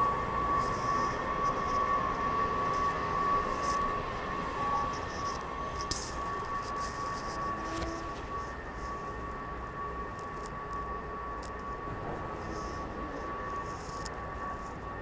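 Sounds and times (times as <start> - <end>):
high-pitched train whine: 0.0 - 15.0
train rumbling: 0.0 - 15.0.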